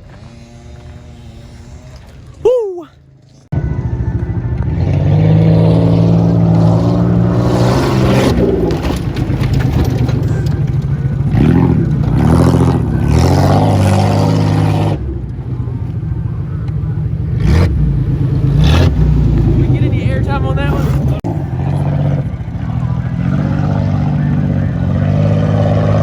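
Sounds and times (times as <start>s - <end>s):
car engine running hard: 3.1s - 26.0s.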